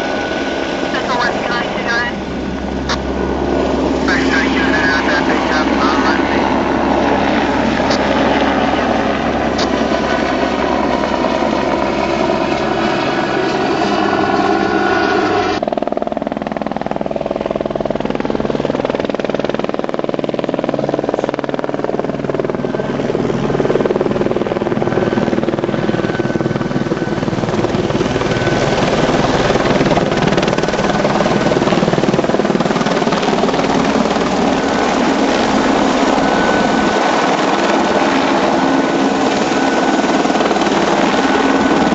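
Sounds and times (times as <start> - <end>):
helicopter rotor and turbine: 0.0 - 41.9.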